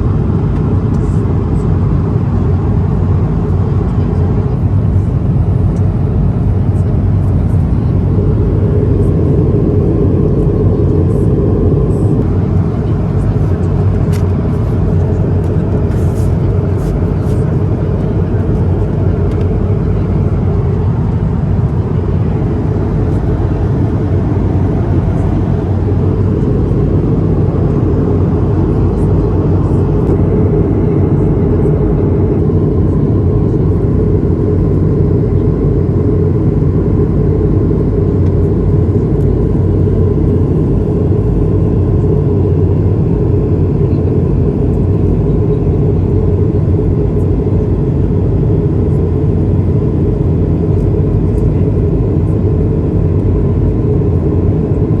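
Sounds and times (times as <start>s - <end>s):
aircraft cabin engine roar: 0.0s - 55.0s.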